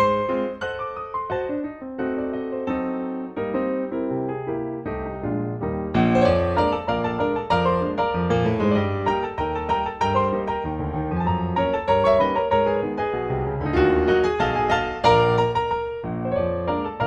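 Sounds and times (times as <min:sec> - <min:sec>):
lively piano music: 0:00.0 - 0:17.0.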